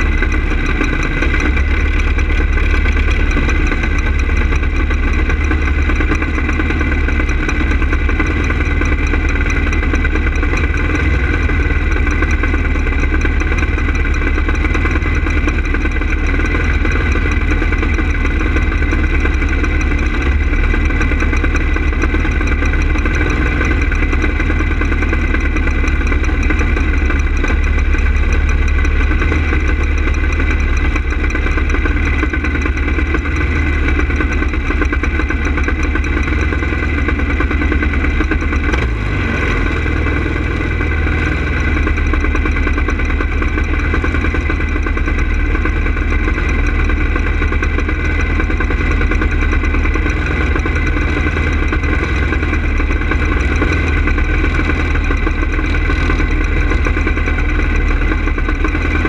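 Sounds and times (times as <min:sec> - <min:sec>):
go-kart engine idling: 0:00.0 - 0:59.0.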